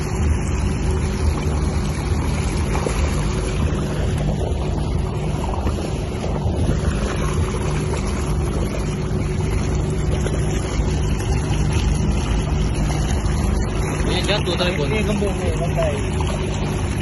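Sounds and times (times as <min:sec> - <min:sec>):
water washing around vehicle: 0:00.0 - 0:17.0.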